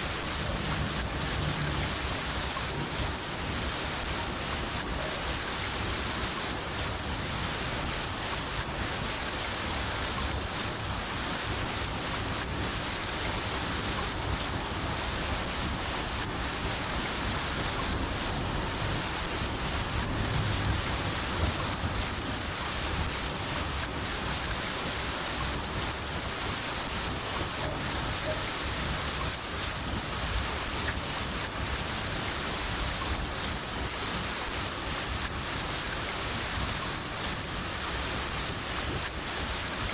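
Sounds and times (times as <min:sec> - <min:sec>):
cricket chirping: 0:00.0 - 0:39.9
rain falling: 0:00.0 - 0:39.9.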